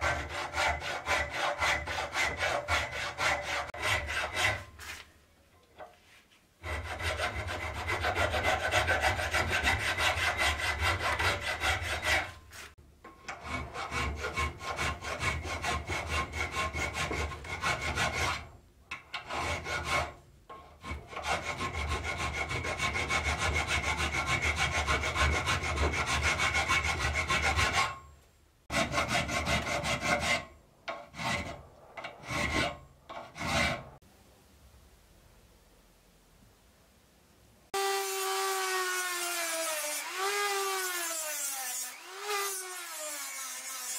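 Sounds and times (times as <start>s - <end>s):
hand file scraping steel: 0.0s - 5.1s, 5.8s - 28.1s, 28.7s - 34.0s, 37.8s - 43.9s.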